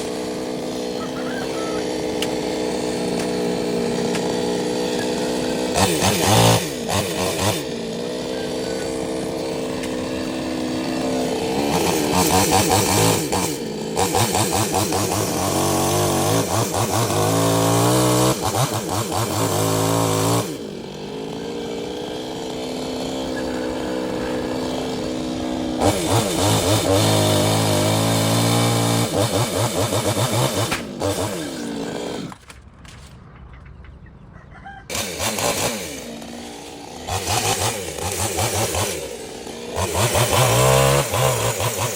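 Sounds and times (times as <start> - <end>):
chainsaw cutting wood: 0.0 - 33.1, 34.9 - 41.9.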